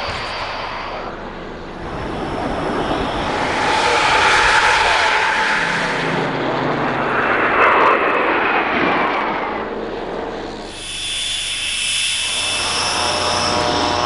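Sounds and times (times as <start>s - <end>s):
aircraft engines rushing and whining: 0.0s - 14.0s.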